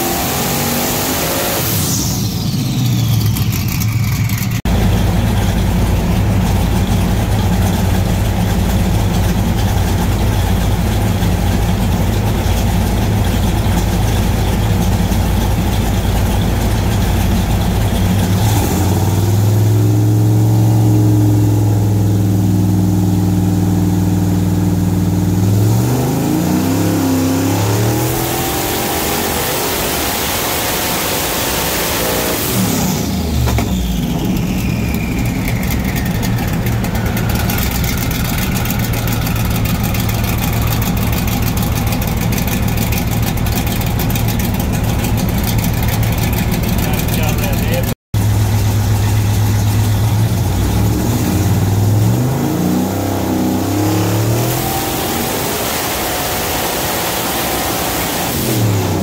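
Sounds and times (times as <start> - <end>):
engine running on dyno: 0.0 - 59.0.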